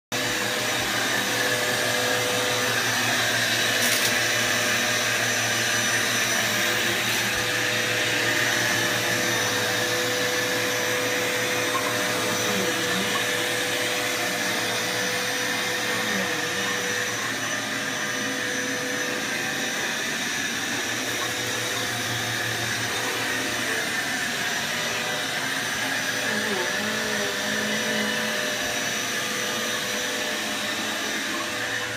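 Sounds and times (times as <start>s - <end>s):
vacuum cleaner motor whine: 0.1s - 31.9s.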